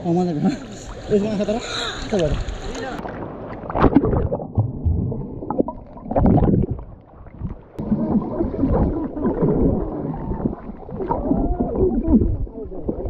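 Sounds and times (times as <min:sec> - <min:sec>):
swimmers kicking underwater: 0:00.6 - 0:13.0
bubbles churning: 0:02.1 - 0:13.0.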